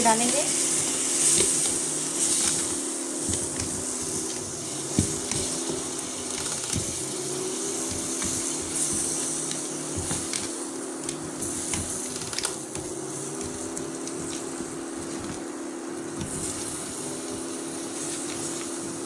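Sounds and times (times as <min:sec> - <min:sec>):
mixture sizzling in a pan: 0:00.0 - 0:19.0.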